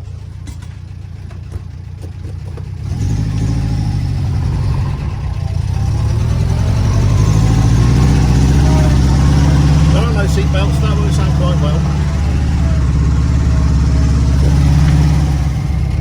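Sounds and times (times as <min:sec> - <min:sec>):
car engine pulling away: 0:00.0 - 0:16.0.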